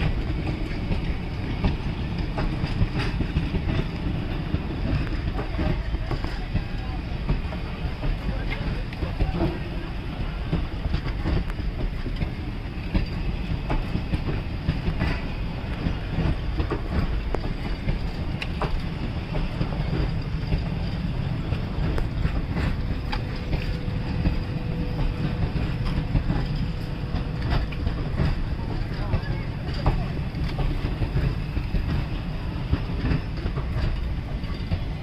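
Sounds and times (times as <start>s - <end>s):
train wheels rumbling on rails: 0.0s - 35.0s
wheels clicking over rail joints: 0.0s - 35.0s.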